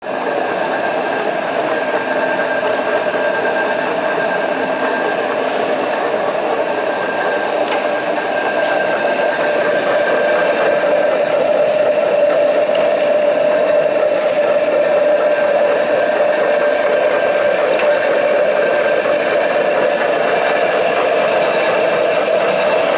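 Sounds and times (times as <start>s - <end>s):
grinder machine whining: 0.0s - 22.9s.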